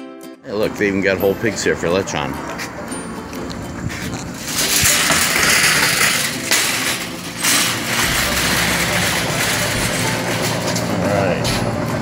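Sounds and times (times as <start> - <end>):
shopping cart rattling: 1.2 - 12.0.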